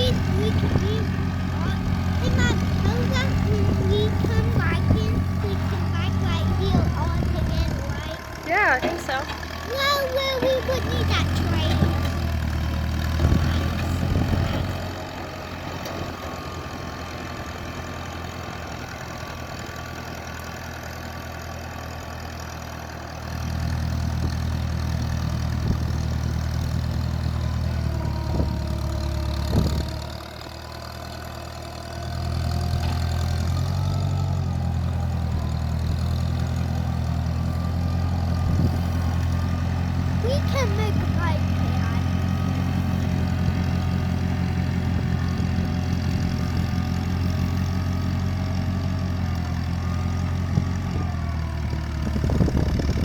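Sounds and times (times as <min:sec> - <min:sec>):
motor engine humming: 0:00.0 - 0:53.0.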